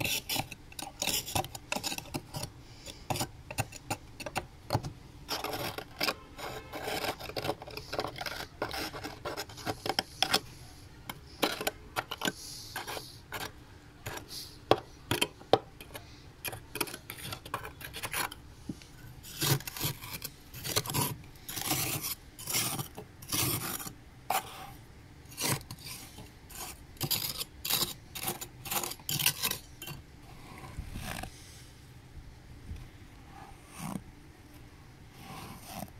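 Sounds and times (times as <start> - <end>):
metal spoon scraping frost: 0.0 - 4.4, 5.3 - 18.4, 19.1 - 31.3.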